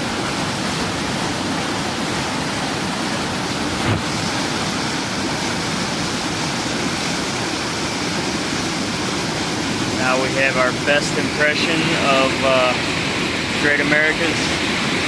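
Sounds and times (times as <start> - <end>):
water rushing through culvert: 0.0 - 15.0.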